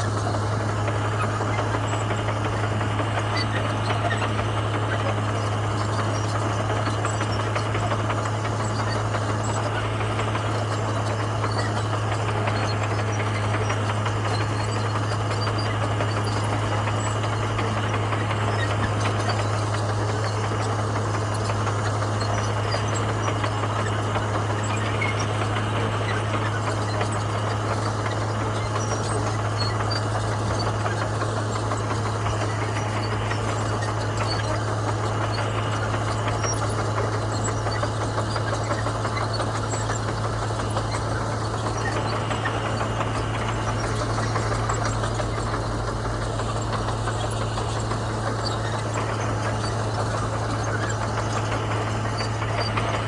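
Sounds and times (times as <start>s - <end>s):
bulldozer diesel engine droning: 0.0s - 53.0s.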